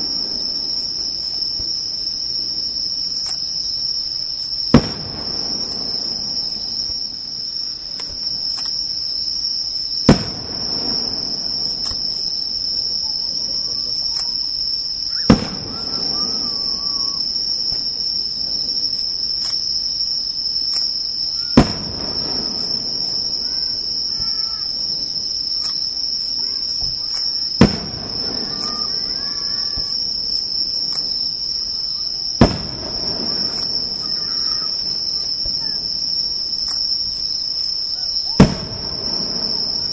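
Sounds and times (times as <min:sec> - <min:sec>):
insects chirring: 0:00.0 - 0:39.9
firework shells bursting: 0:04.4 - 0:07.1, 0:09.9 - 0:19.9, 0:20.5 - 0:39.9.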